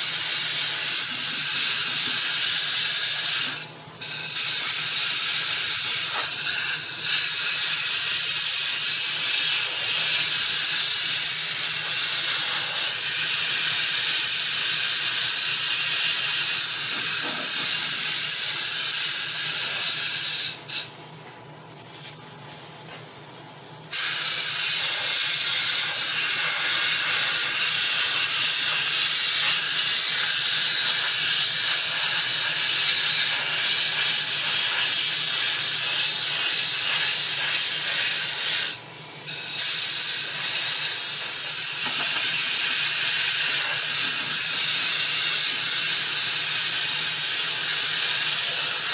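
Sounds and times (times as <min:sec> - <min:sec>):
compressed air hissing: 0:00.0 - 0:21.0, 0:23.9 - 0:48.9.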